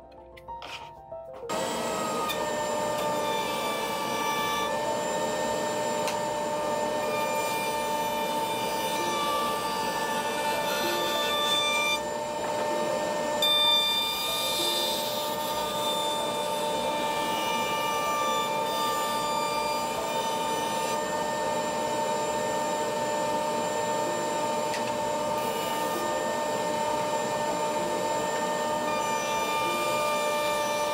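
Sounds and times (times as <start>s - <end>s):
router cutting wood: 1.5s - 30.9s
router whining: 1.5s - 30.9s.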